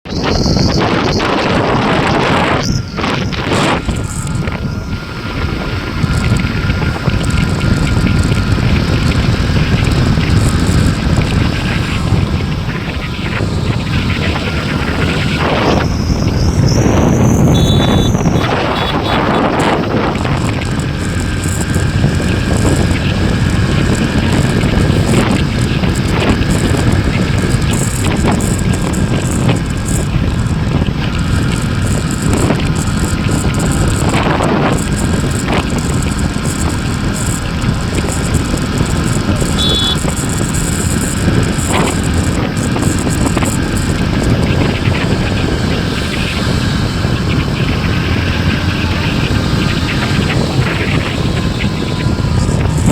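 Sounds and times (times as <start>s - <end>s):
road and wind noise of bike: 0.0s - 52.9s.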